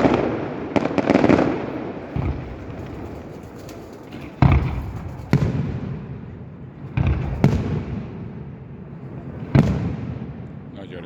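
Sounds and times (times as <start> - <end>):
fireworks bangs echoing: 0.0 - 10.7.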